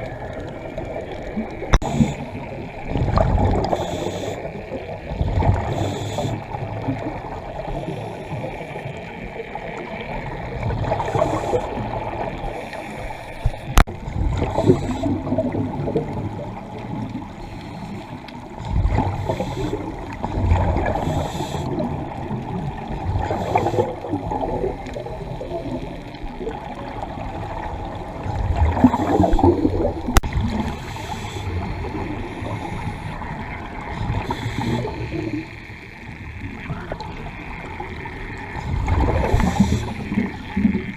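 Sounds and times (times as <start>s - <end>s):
underwater regulator bubbling: 0.0s - 40.9s.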